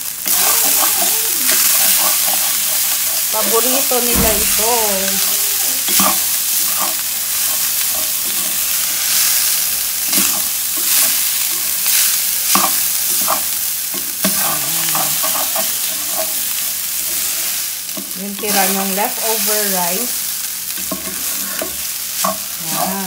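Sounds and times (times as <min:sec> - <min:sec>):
rice sizzling in oil: 0:00.0 - 0:23.0
wooden spoon scraping a pan: 0:00.3 - 0:09.5, 0:10.1 - 0:23.0.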